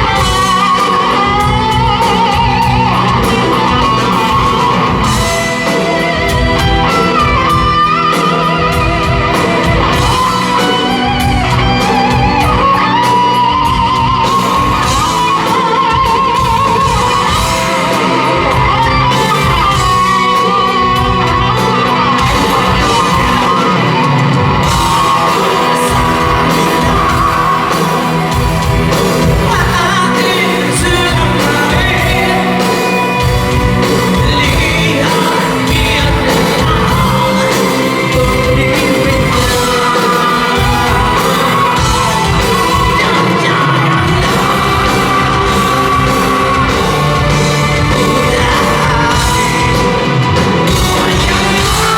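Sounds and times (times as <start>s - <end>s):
drums and bass: 0.0s - 51.9s
electric guitar lead: 0.0s - 51.9s
voices singing and shouting: 0.0s - 51.9s.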